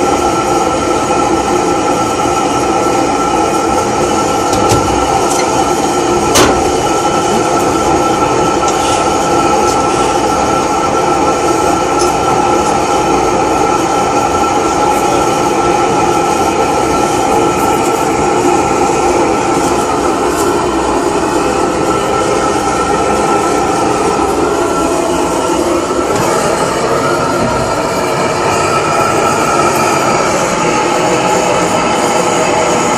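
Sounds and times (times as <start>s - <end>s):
gas blowtorch rushing: 1.9s - 32.9s.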